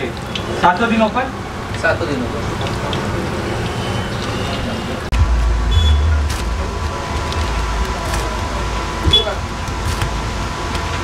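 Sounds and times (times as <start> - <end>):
hot oil sizzling: 0.0 - 11.0
road traffic engine rumble: 0.0 - 11.0.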